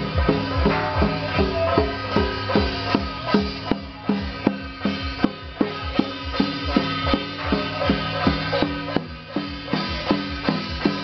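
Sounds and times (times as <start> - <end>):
drums beating: 0.0 - 11.0.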